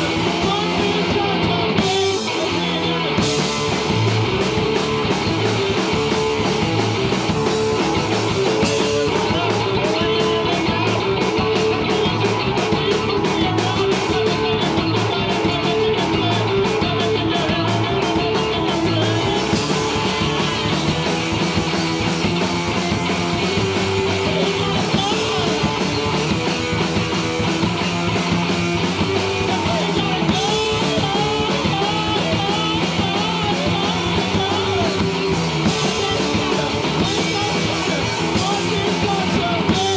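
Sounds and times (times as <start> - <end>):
driving drum beat: 0.0 - 39.9
loud electric guitar: 0.0 - 39.9.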